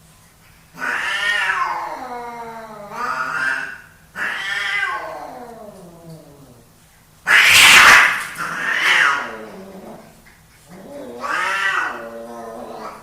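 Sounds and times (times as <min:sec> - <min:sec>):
cats hissing: 0:00.7 - 0:13.0
cats yowling: 0:00.8 - 0:06.6, 0:07.3 - 0:13.0.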